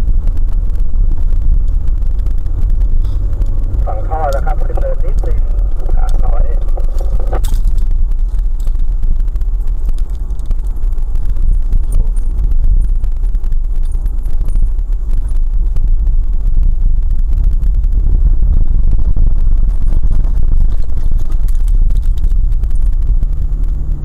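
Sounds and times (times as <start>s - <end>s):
car tyres and engine rumbling: 0.0s - 24.0s
faint ticks and rattles: 0.0s - 24.0s.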